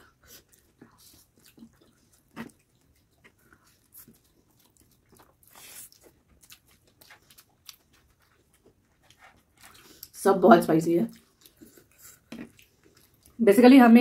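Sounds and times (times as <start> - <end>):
soft chewing: 0.0 - 13.7.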